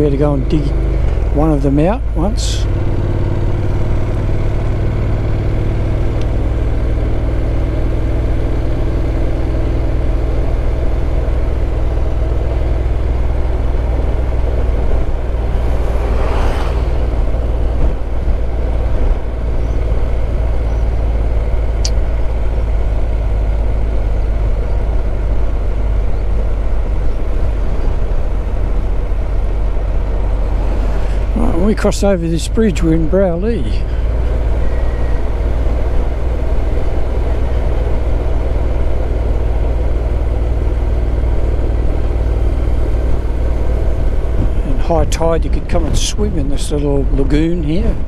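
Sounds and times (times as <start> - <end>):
motorcycle engine running: 0.0 - 48.0
passing vehicle rush: 0.0 - 48.0
wind and road noise: 0.0 - 48.0.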